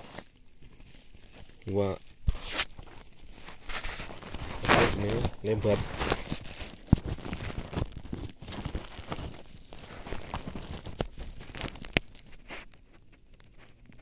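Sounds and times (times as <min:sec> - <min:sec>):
plastic sack rustling and crinkling: 0:00.0 - 0:12.9.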